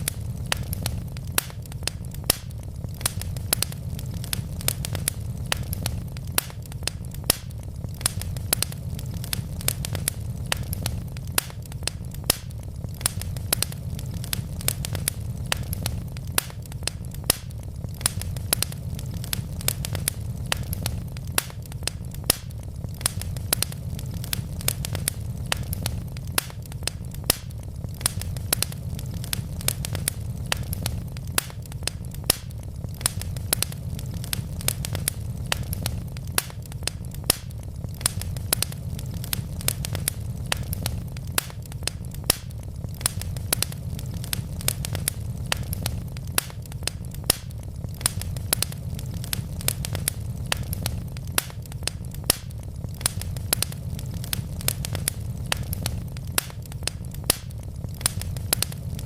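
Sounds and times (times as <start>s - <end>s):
logs crackling and popping: 0.0s - 59.0s
low rumble of flames: 0.0s - 59.0s.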